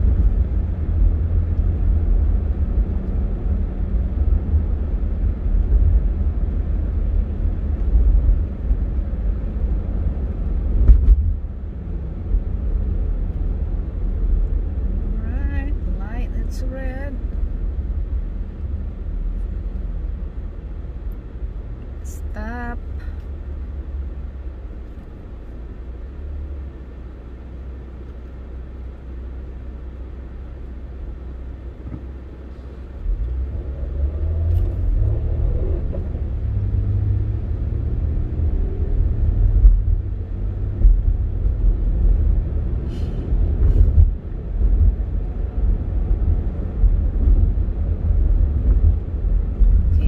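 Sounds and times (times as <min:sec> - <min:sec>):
car engine rumble and road noise: 0:00.0 - 0:50.0.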